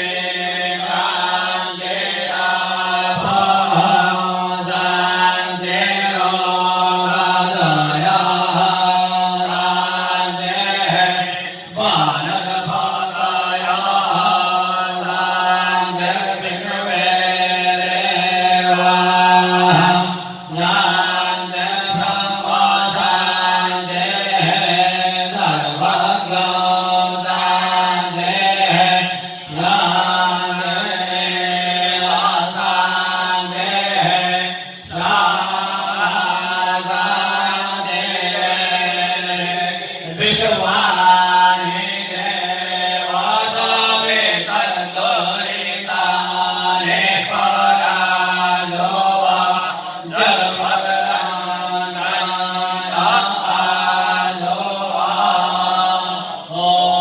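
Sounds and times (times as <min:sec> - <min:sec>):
voices chanting in unison: 0:00.0 - 0:57.0.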